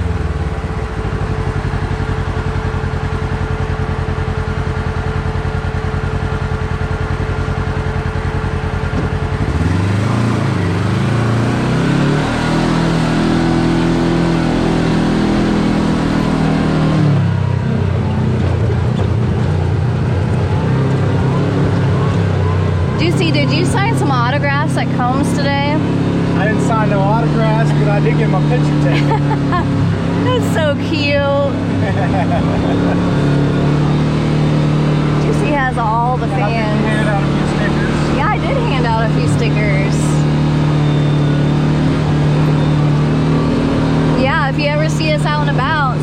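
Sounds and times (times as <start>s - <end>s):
utility vehicle engine revving: 0.0s - 46.0s.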